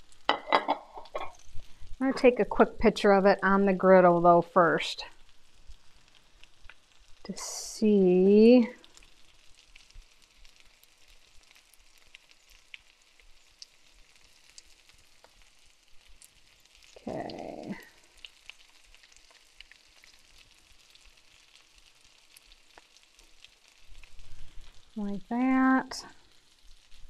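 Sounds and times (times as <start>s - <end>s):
food sizzling on a griddle: 0.0s - 27.0s.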